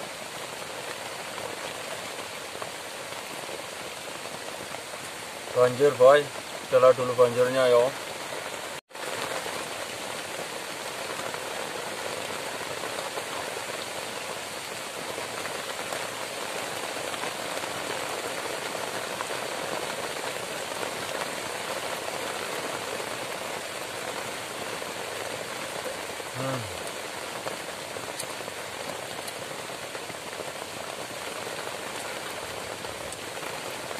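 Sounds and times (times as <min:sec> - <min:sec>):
heavy rain on leaf roof: 0:00.0 - 0:33.9.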